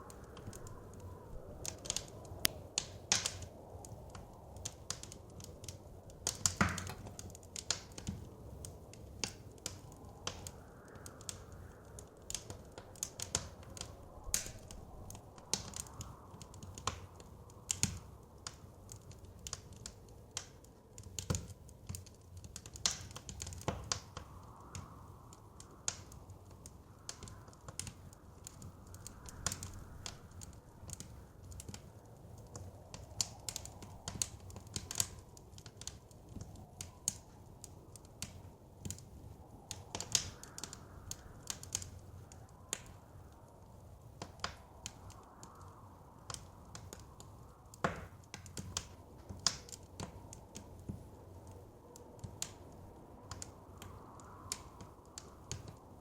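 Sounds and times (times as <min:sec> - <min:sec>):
low rumble of wind: 0:00.0 - 0:56.0
wood fire crackling and popping: 0:00.0 - 0:56.0.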